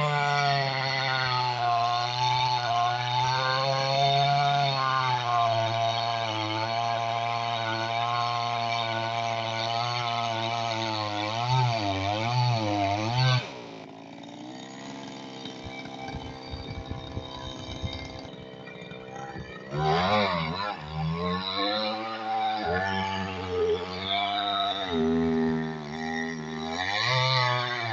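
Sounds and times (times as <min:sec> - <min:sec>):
chainsaw running: 0:00.0 - 0:27.9.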